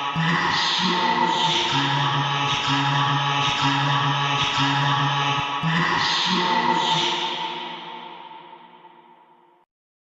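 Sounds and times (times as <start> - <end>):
chant-like droning tones: 0.0 - 9.2.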